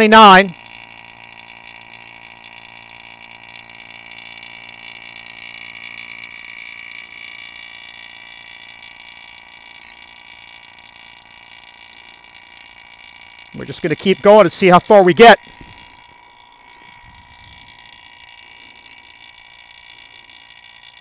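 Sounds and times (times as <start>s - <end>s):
electric vacuum pump running: 0.0s - 21.0s.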